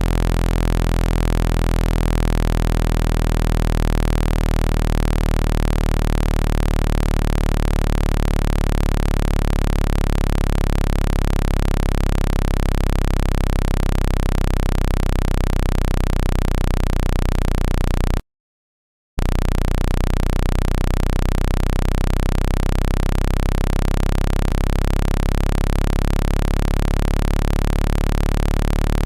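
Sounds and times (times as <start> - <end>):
pulsing electronic low tone: 0.0 - 18.2, 19.2 - 29.0.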